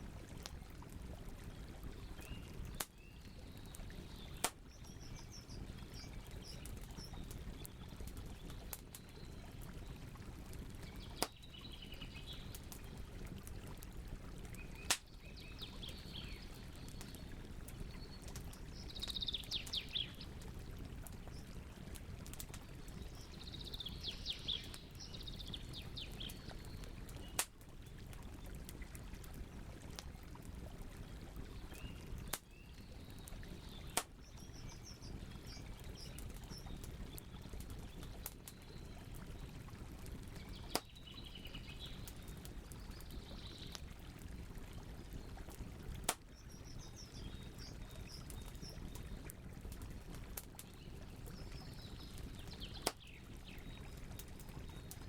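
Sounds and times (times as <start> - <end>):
campfire burning with pops: 0.1 - 55.0.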